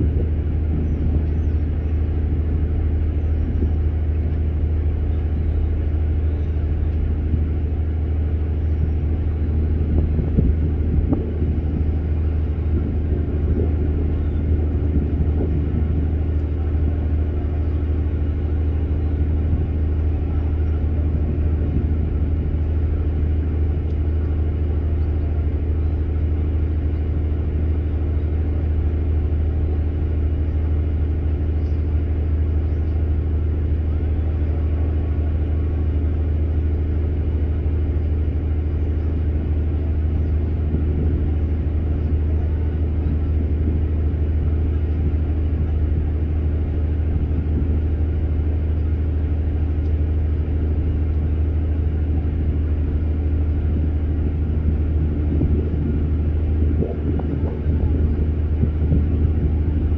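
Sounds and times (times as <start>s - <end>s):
engine rumble: 0.0s - 59.9s.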